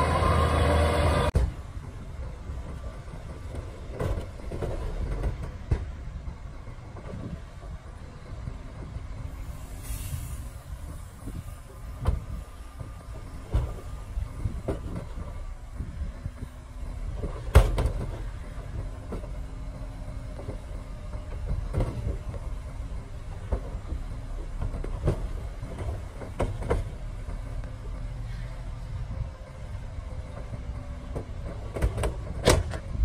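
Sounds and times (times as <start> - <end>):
knocks and thuds of shifting load: 0.0 - 33.0.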